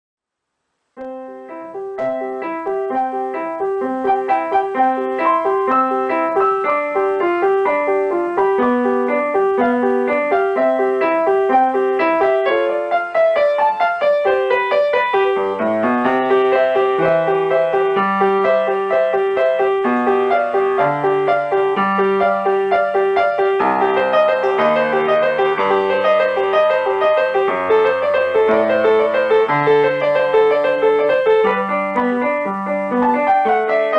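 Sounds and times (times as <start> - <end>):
solo piano playing: 0.8 - 33.9.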